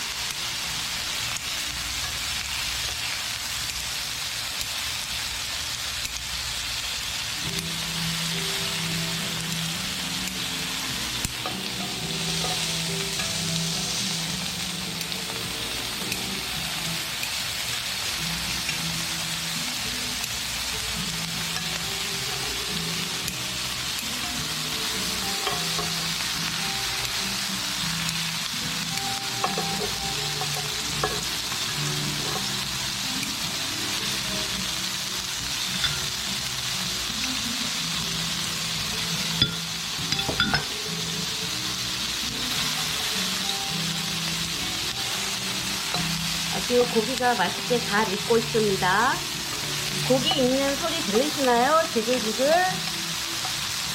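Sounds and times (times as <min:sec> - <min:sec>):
meat sizzling on a griddle: 0:00.0 - 0:53.9.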